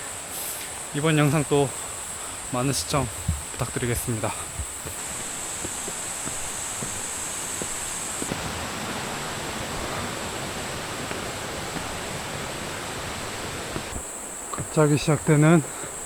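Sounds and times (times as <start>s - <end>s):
high thin insect drone: 0.0s - 16.0s
mountain stream rushing: 0.0s - 16.0s.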